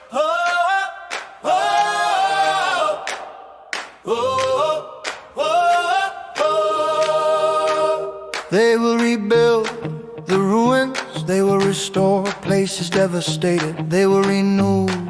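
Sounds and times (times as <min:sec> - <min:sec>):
voices singing in harmony: 0:00.0 - 0:13.4.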